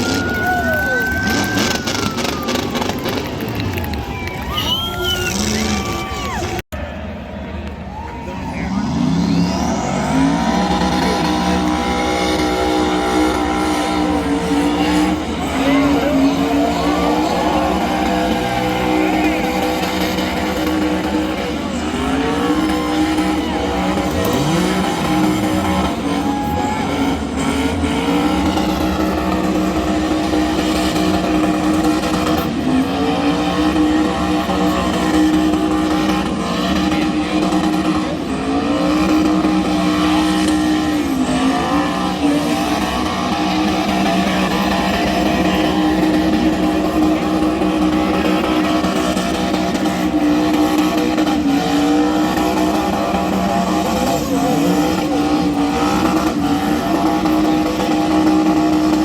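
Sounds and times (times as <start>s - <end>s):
car engine at high revs: 0.0s - 7.0s, 7.6s - 59.0s.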